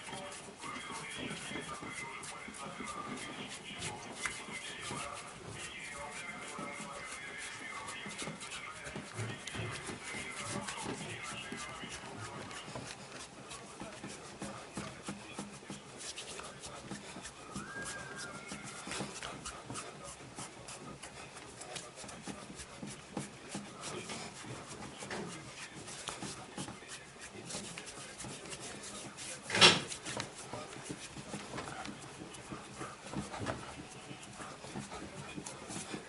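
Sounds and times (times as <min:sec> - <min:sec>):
hands rubbing on body: 0:00.0 - 0:36.0.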